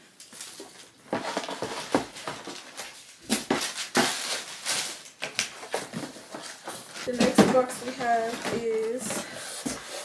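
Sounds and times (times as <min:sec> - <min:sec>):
tissue paper rustling: 0:00.3 - 0:10.0.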